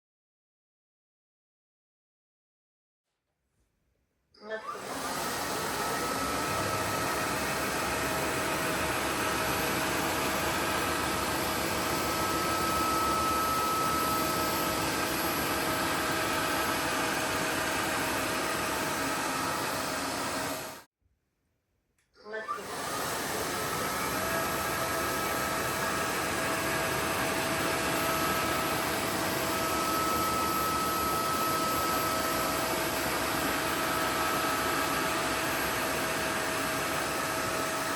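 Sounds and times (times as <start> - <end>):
floor vacuum whining: 4.4 - 20.9, 22.2 - 37.9.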